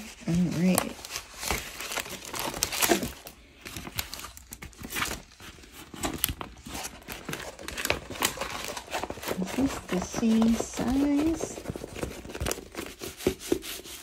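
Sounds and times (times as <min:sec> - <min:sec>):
plastic film crinkling: 0:00.0 - 0:14.0.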